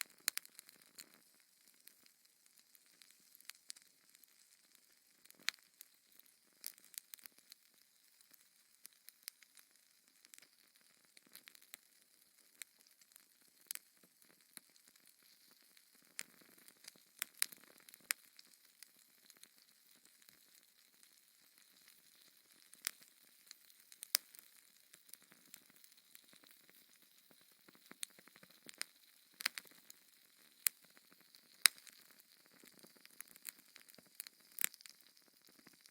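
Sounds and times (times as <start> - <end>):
fire crackling in a fireplace: 0.0 - 35.9.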